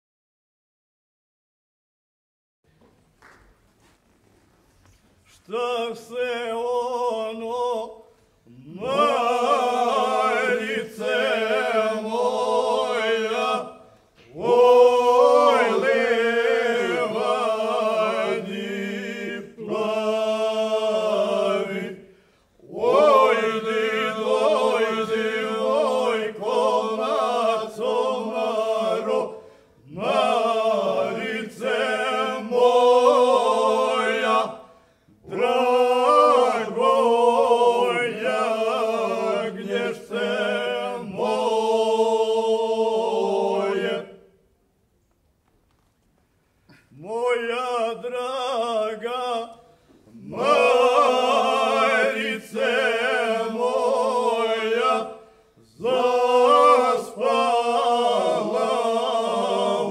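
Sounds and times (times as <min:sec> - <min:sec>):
men's group singing unaccompanied: 0:05.4 - 0:44.3, 0:47.0 - 0:59.9.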